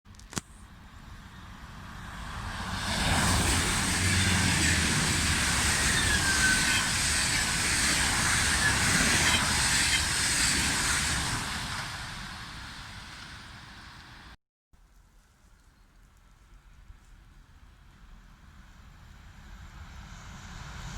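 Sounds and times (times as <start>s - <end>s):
train passing at speed: 0.6s - 14.4s, 17.4s - 20.9s.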